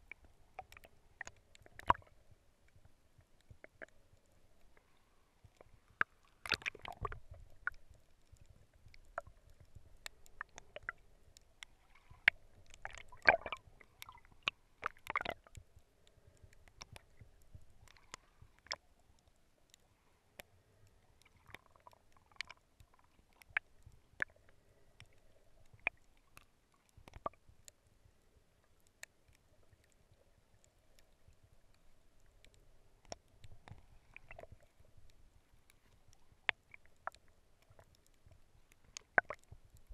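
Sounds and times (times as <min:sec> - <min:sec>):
sharp underwater clicks and pops: 0:00.0 - 0:27.8, 0:28.7 - 0:39.9
faint steady hum: 0:00.0 - 0:39.9.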